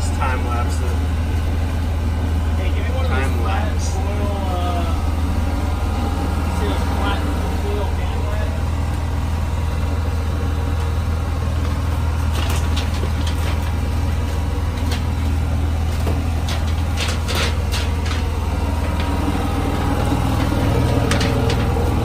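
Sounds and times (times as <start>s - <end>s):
generator engine running: 0.0s - 22.0s.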